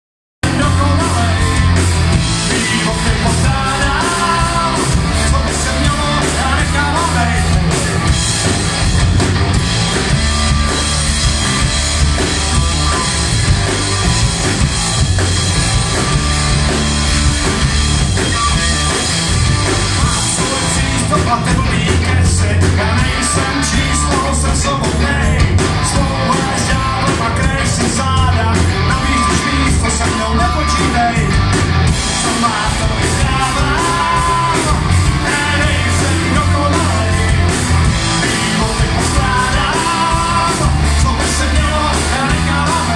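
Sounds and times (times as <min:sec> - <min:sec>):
bass guitar: 0:00.4 - 0:42.9
drum kit: 0:00.4 - 0:42.9
electric guitars: 0:00.4 - 0:42.9.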